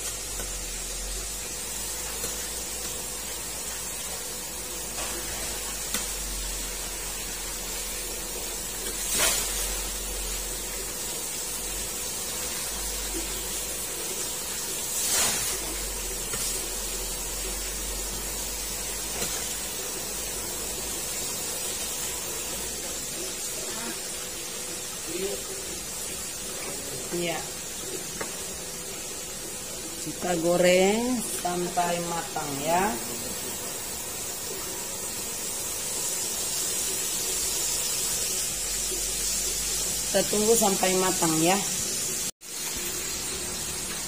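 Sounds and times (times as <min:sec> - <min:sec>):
food deep-frying in oil: 0:00.0 - 0:44.0.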